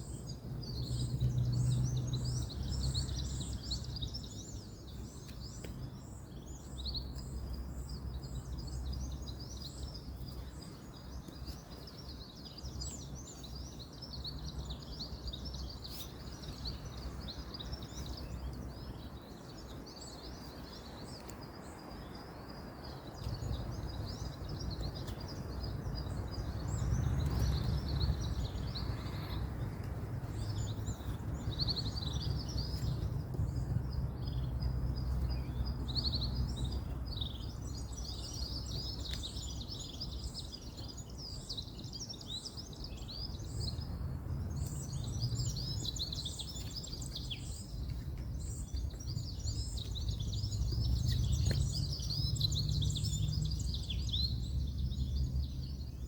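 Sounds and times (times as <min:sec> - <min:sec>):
distant road traffic rumble: 0:00.0 - 0:56.0
small birds chirping: 0:00.0 - 0:56.0.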